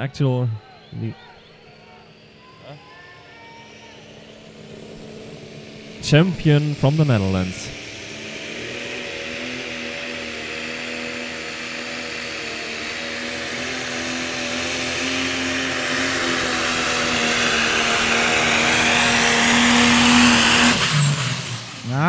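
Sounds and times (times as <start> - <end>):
rushing noise: 1.1 - 22.0
diesel tractor engine at full load: 3.7 - 22.0.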